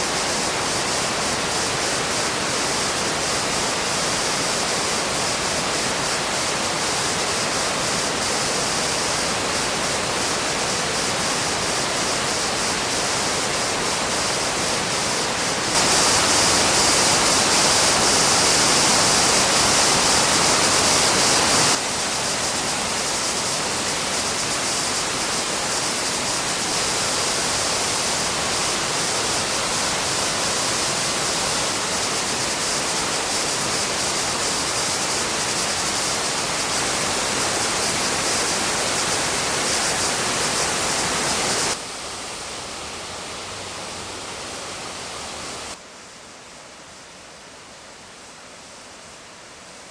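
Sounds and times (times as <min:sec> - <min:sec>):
waterfall roaring: 0:00.0 - 0:46.1.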